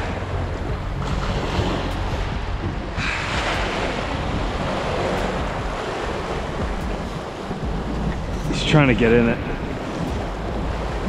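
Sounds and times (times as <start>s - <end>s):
water rushing along boat hull: 0.0s - 11.0s
wind buffeting microphone: 0.0s - 11.0s.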